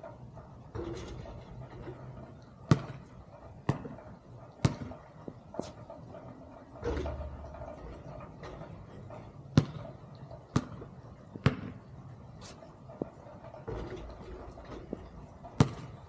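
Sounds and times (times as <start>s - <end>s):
basketball bouncing: 0.7s - 16.0s.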